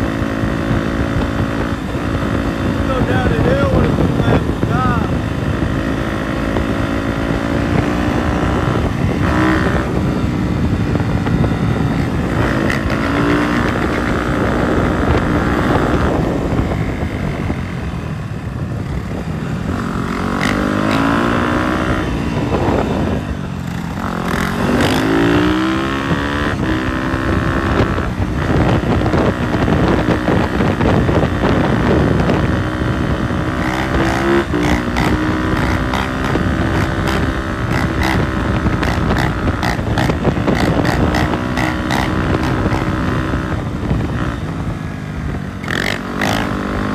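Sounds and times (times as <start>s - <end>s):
dirt bike engines revving: 0.0s - 17.9s, 18.5s - 46.9s.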